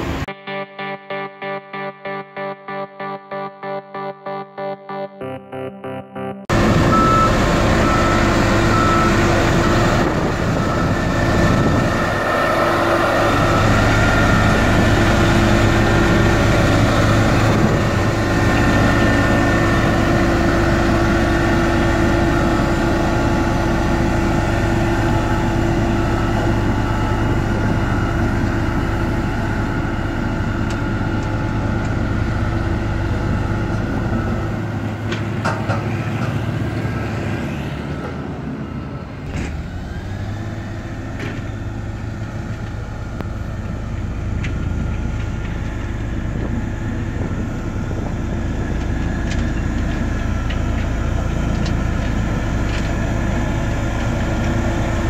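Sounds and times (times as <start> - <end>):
road roller diesel engine humming: 0.0 - 55.0.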